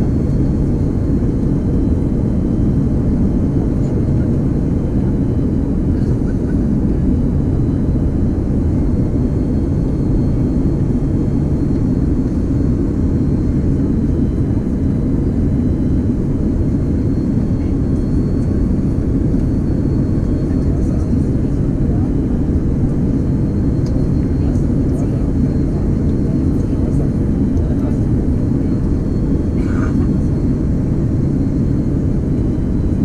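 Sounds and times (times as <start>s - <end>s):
airplane engine and airflow rumble: 0.0s - 33.0s.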